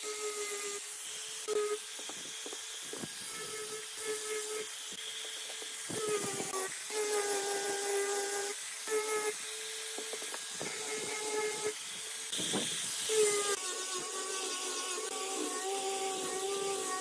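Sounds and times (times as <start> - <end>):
angle grinder motor whine: 0.0 - 17.0
sanding disc hissing on wood: 0.0 - 17.0.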